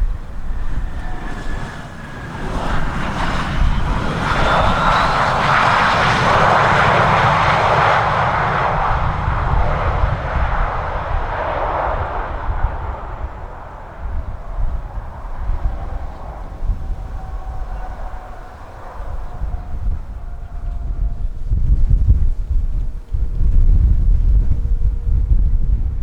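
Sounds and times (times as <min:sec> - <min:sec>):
airliner engine noise: 0:00.0 - 0:26.0
wind rumbling on microphone: 0:00.0 - 0:26.0.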